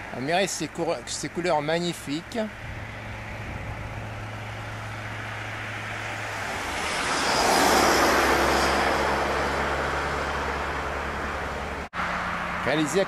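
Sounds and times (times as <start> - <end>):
car passing by: 2.4 - 13.0.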